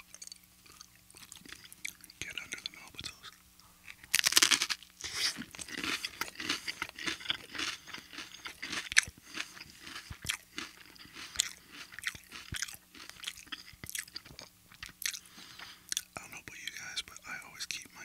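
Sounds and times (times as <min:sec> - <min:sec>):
person chewing crunchy toast: 0:00.0 - 0:16.8.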